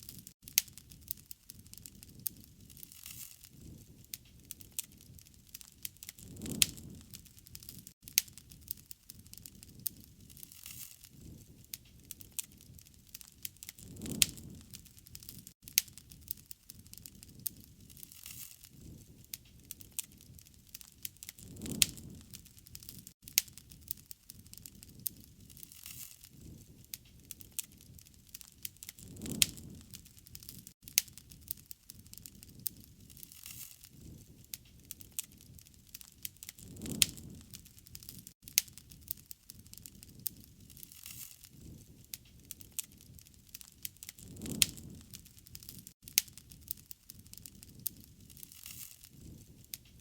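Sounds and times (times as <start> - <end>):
low rushing of flames: 0.0 - 50.0
wood fire crackling and popping: 0.0 - 50.0.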